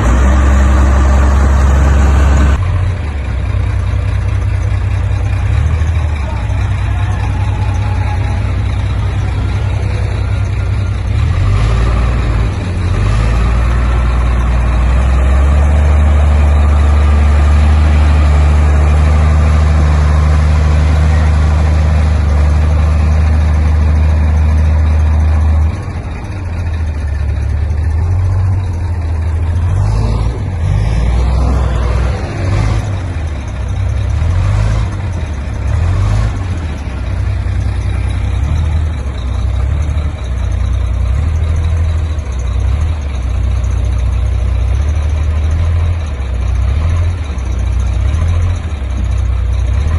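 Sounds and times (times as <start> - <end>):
heavy diesel engine droning: 0.0 - 49.9.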